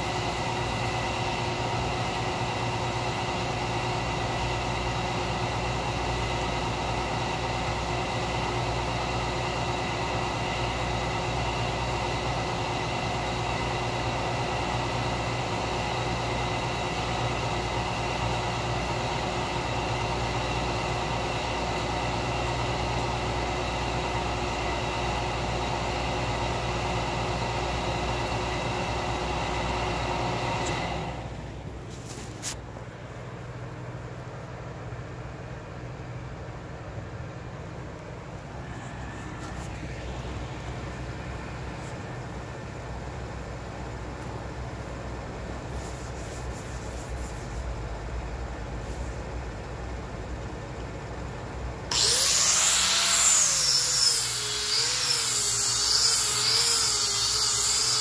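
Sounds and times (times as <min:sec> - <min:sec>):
steady mechanical drone: 0:00.0 - 0:58.0.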